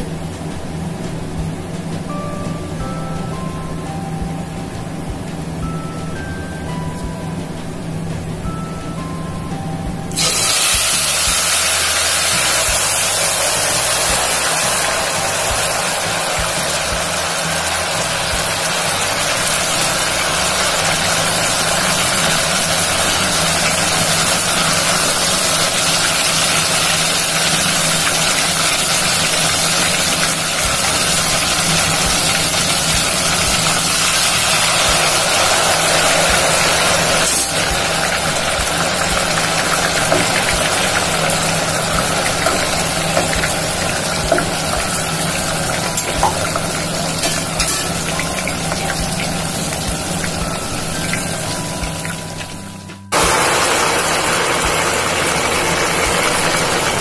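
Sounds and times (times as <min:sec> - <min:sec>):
batter frying in hot oil: 0:10.1 - 0:57.0.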